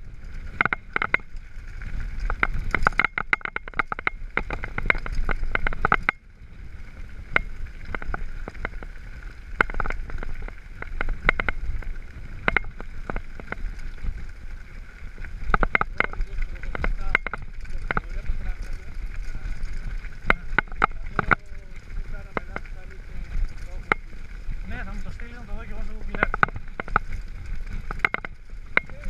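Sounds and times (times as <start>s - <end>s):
bike rattling clicks: 0.0s - 29.0s
bike tyres rumbling on gravel: 0.0s - 29.0s.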